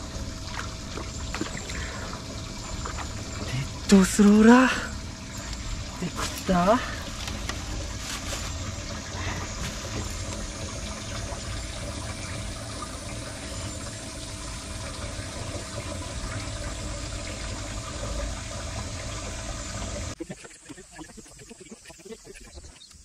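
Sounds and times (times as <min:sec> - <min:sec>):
water running: 0:00.0 - 0:22.8
faint steady hum: 0:00.0 - 0:23.0.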